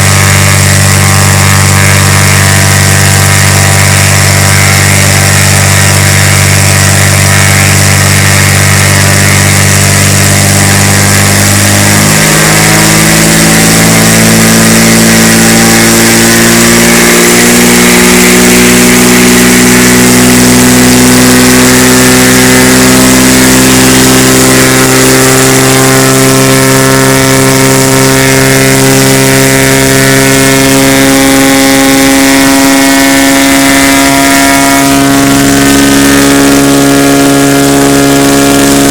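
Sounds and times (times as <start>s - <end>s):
aircraft engine and propeller: 0.0s - 38.9s.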